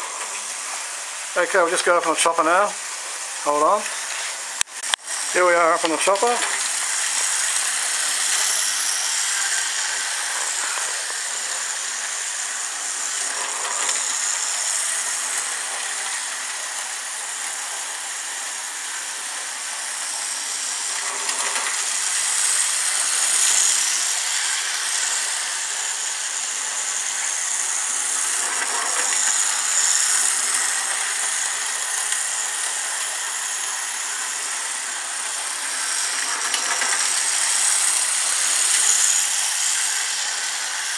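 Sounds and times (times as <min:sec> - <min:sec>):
high-pitched motor whir: 0:00.0 - 0:40.9.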